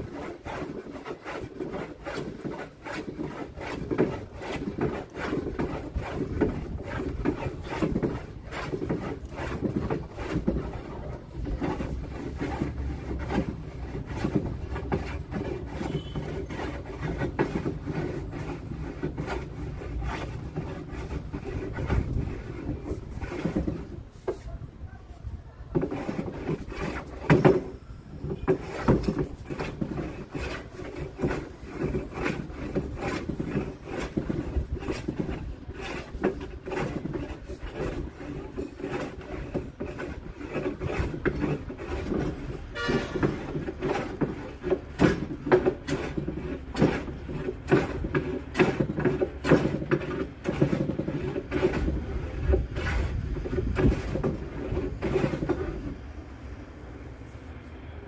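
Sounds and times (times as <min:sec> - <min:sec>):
hand tool rubbing wooden board: 0:00.0 - 0:56.1.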